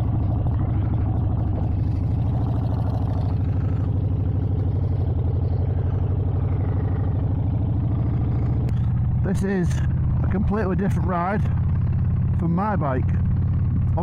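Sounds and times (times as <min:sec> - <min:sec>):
motorcycle engine running low: 0:00.0 - 0:14.0.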